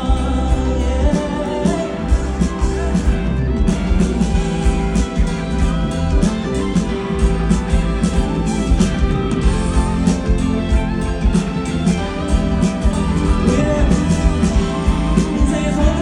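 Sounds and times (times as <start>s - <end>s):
pop-rock band playing: 0.0s - 16.0s.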